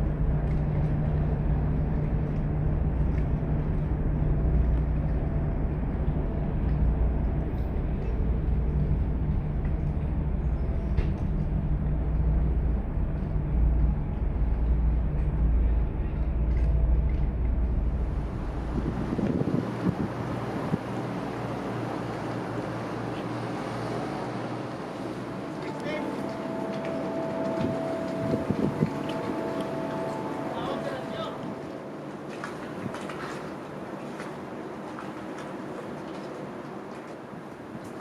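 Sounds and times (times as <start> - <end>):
low engine drone: 0.0 - 37.8
water noise: 0.0 - 38.0
wind: 0.0 - 38.0.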